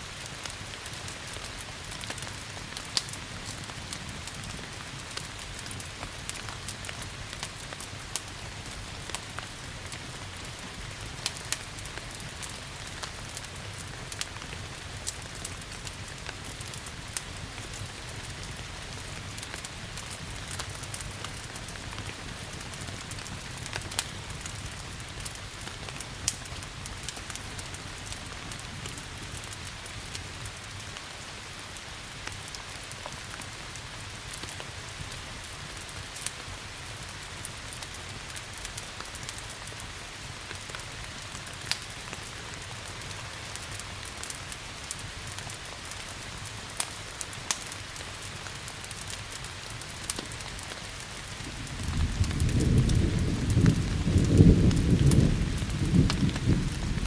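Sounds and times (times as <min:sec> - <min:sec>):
steady rain falling: 0:00.0 - 0:57.0
wood fire crackling and popping: 0:00.0 - 0:57.0.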